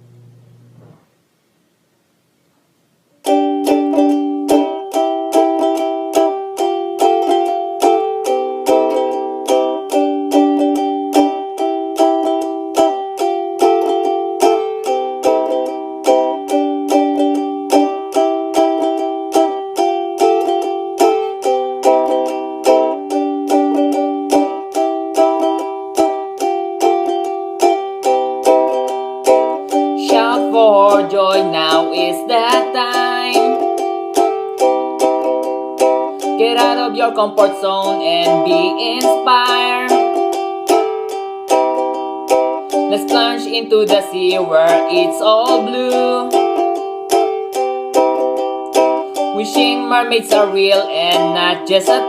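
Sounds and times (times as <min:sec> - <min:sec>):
strummed string instrument chords: 0:03.2 - 0:52.0.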